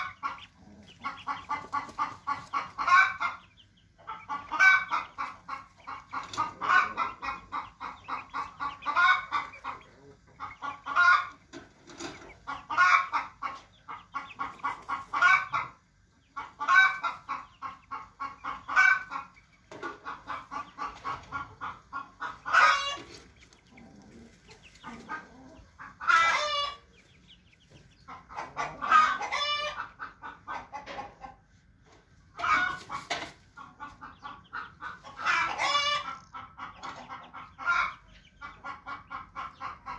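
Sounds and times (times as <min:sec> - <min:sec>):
chicken calls: 0:00.0 - 0:39.9
chickens clucking: 0:00.0 - 0:39.9.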